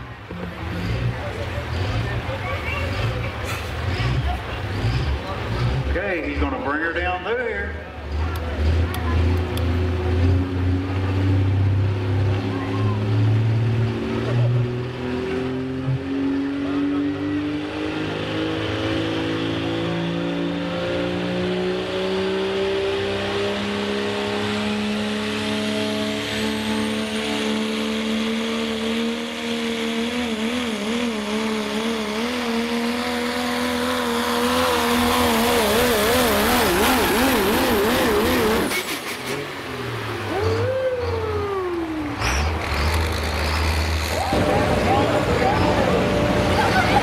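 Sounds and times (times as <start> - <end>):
diesel truck engine at full throttle: 0.0 - 47.0.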